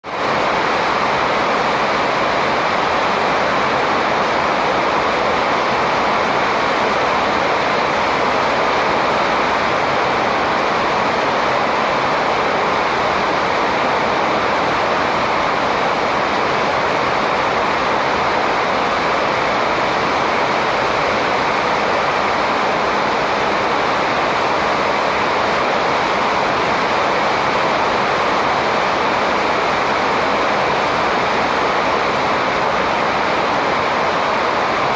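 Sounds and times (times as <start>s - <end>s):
loud steady rushing noise: 0.0s - 34.9s.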